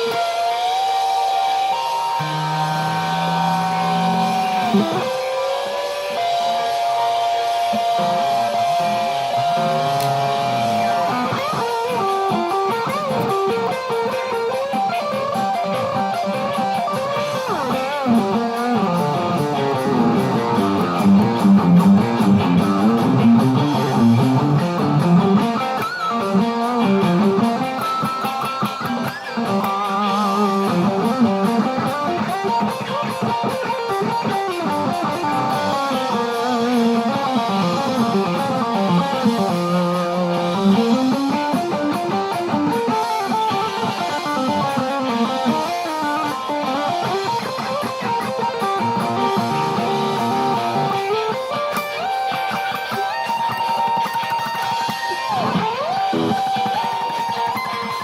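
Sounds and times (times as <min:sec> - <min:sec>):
guitar lead line with bent notes: 0:00.0 - 0:58.0.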